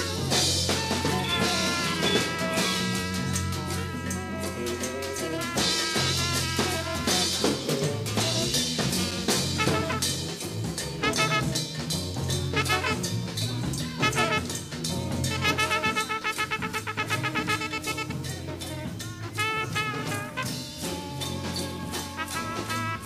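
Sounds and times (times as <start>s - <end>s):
trumpet runs of short high notes: 0.0s - 10.4s, 11.0s - 11.8s, 12.5s - 21.0s, 21.6s - 23.0s
jazz band playing: 0.0s - 23.0s.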